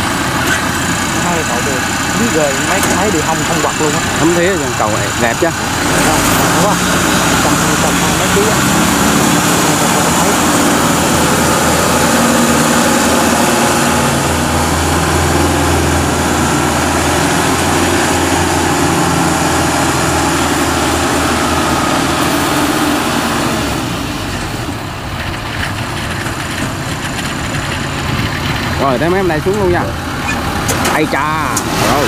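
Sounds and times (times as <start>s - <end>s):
tracked machine engine running: 0.0s - 32.0s.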